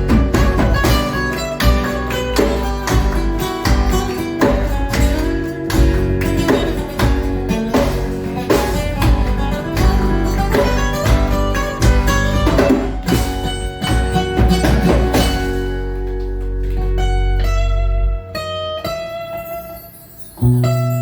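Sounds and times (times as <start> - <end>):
live band playing: 0.0 - 17.4
lead guitar: 0.0 - 21.0.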